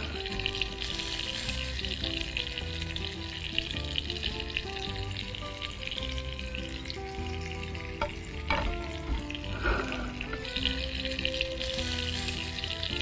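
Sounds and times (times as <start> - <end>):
fish sizzling in a pan: 0.0 - 13.0
soft background music: 0.0 - 13.0.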